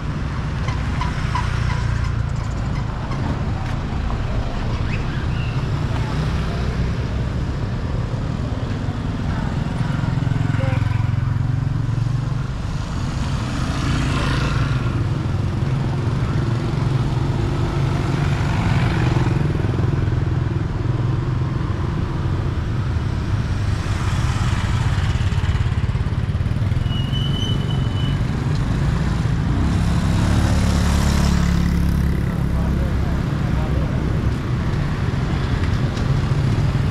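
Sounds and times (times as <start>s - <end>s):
low traffic rumble: 0.0s - 36.9s
motorbikes passing: 0.0s - 36.9s.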